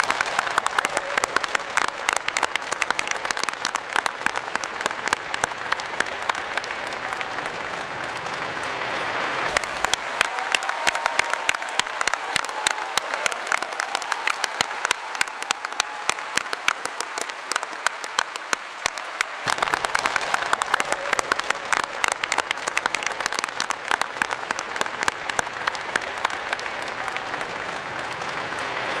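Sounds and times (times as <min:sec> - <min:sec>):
audience applause: 0:00.0 - 0:29.0.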